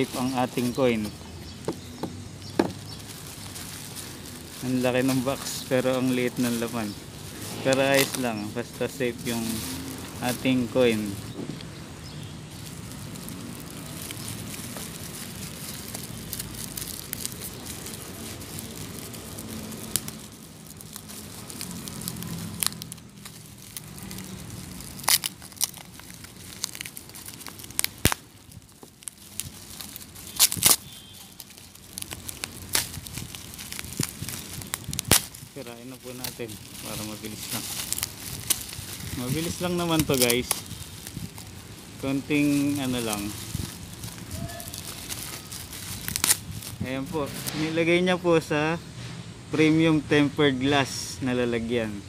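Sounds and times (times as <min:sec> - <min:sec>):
bubble wrap cracks: 0:00.0 - 0:47.9
bubble wrap crinkling: 0:00.0 - 0:48.2.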